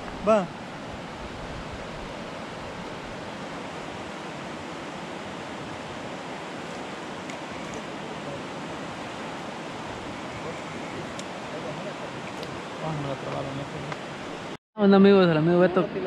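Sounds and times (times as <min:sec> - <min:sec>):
river rushing: 0:00.0 - 0:14.6.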